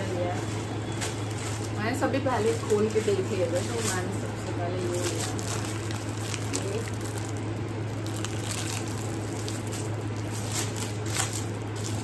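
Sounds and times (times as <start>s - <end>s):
steady low hum: 0.0s - 12.0s
plastic bag crinkling: 0.2s - 12.0s.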